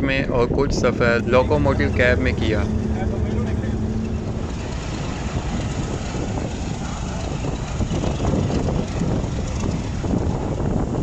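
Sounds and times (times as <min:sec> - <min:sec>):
locomotive engine running: 0:00.7 - 0:11.0.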